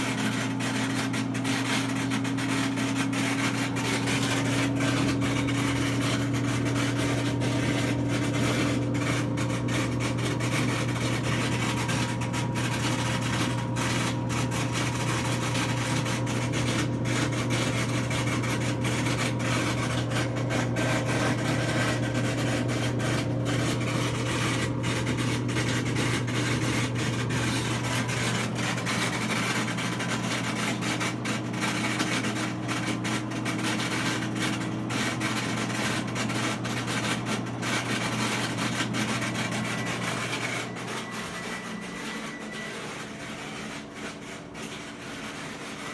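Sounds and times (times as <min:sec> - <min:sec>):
washing machine spinning: 0:00.0 - 0:45.9.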